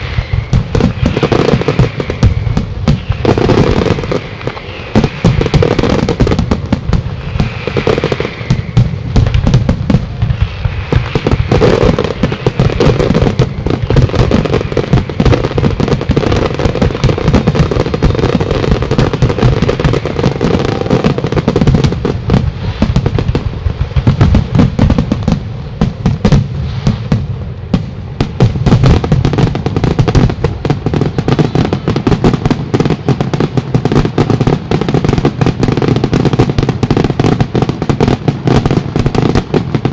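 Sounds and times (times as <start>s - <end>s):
fireworks bursting with crackle: 0.0s - 39.9s.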